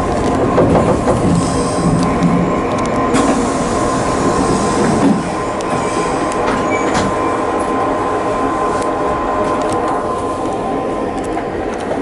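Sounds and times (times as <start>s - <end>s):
train rail and running noise: 0.0s - 12.0s.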